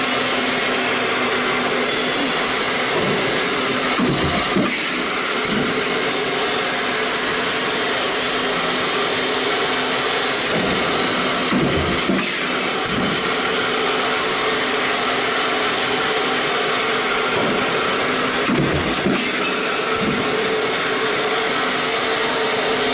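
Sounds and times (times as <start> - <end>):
stamping press running: 0.0 - 22.9.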